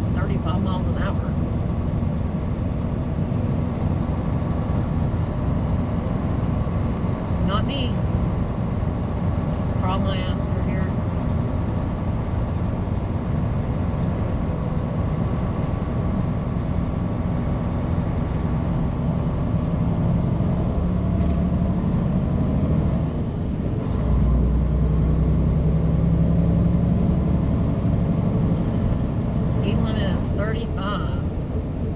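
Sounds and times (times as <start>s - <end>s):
road noise: 0.0s - 31.9s
truck diesel engine: 0.0s - 31.9s.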